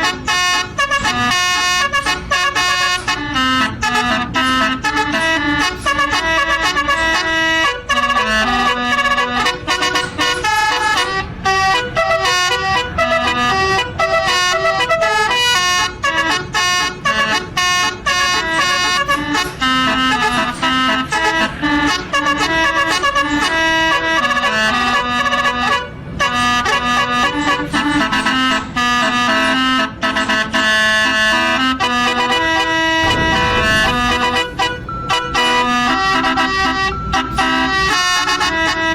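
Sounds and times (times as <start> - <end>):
musical bus horn playing melody: 0.0 - 38.9.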